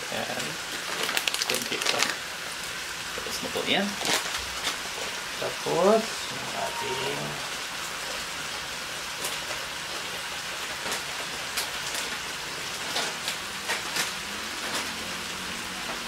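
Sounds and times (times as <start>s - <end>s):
chicken sizzling in a wok: 0.0s - 16.0s.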